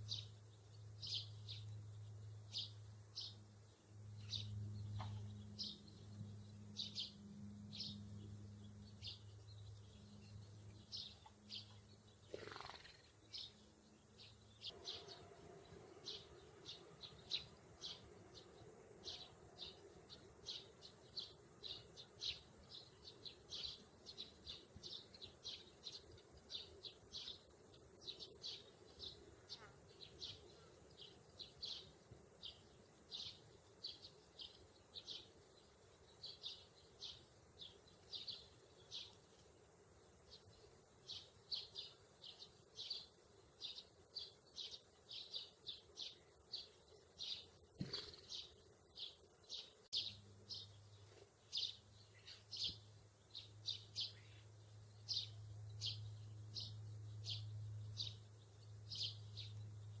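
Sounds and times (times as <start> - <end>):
sparrow chirping: 0.0 - 39.2, 40.3 - 60.0.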